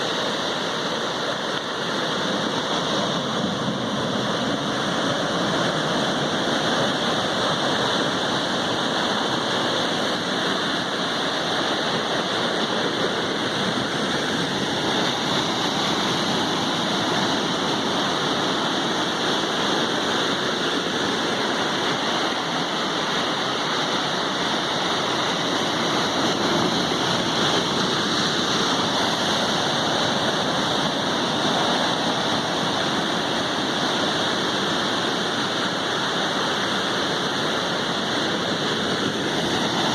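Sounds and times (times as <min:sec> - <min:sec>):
sea surf rushing: 0:00.0 - 0:39.9.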